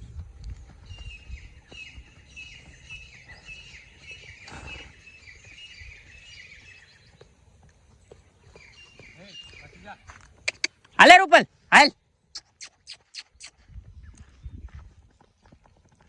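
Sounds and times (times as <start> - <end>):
bird chirping: 0.0 - 11.2, 12.2 - 15.4.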